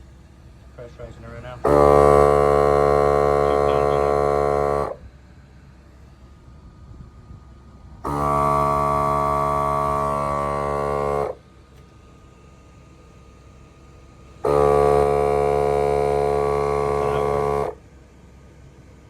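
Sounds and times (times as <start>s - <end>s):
portable compressor running: 0.0s - 5.1s, 5.8s - 19.0s.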